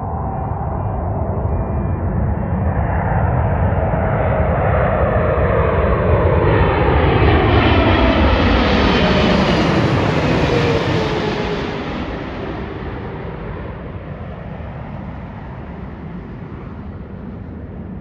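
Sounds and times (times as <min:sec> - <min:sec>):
jet engines passing overhead: 0:00.0 - 0:18.0.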